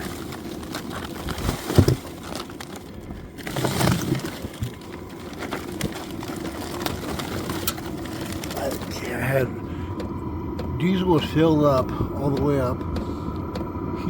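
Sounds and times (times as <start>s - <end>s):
crunching handling knocks: 0.0s - 13.7s
diesel heater humming: 0.0s - 14.0s.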